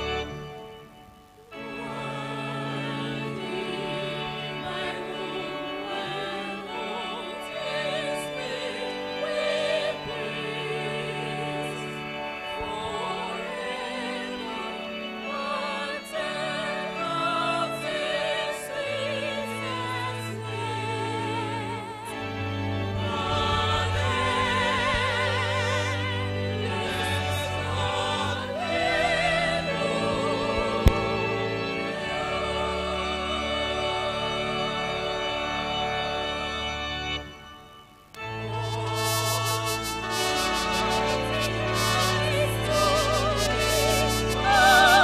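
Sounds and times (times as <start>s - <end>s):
congregation and choir singing hymn: 0.0s - 45.0s.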